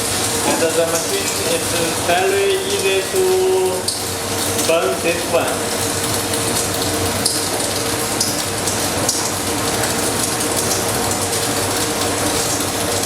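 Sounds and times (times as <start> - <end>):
welding arc crackling sizzle: 0.0 - 13.0.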